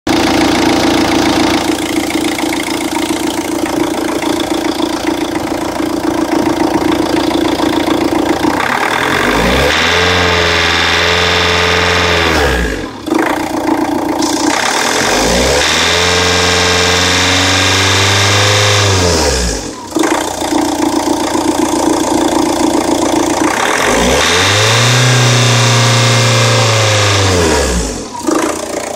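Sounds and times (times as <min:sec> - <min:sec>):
diesel engine running and revving: 0:00.1 - 0:28.9.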